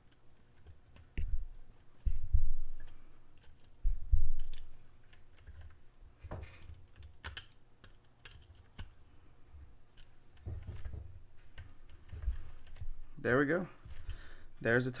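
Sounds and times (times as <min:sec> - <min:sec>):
small clicks and taps: 0:00.0 - 0:13.0.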